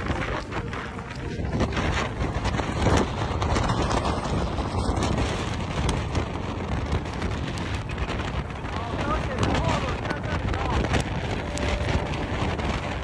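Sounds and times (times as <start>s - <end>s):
storm surf: 0.0s - 13.0s
wind buffeting microphone: 0.0s - 13.0s.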